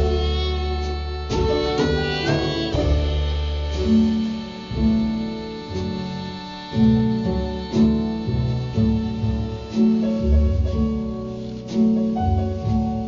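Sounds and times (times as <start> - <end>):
live jazz band playing: 0.0 - 13.0.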